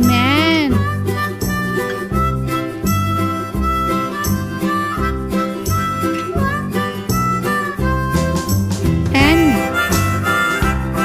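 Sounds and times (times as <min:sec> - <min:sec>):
background music with steady beat: 0:00.0 - 0:11.0
plucked bass line: 0:00.0 - 0:11.0
reedy harmonica-like melody: 0:00.0 - 0:11.0.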